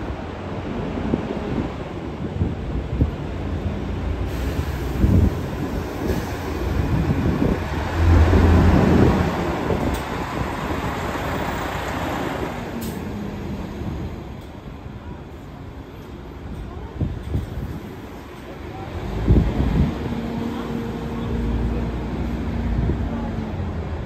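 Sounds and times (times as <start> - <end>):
bus engine accelerating: 0.0 - 24.0.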